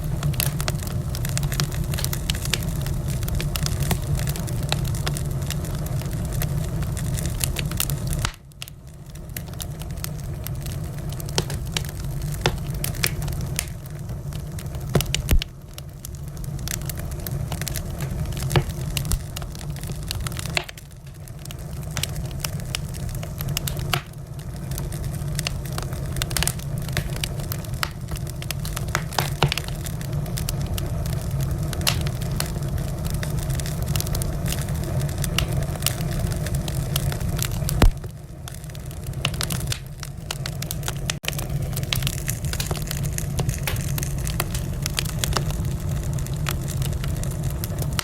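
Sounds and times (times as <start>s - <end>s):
fire low rumble: 0.0s - 48.0s
wood fire crackling: 0.0s - 48.0s.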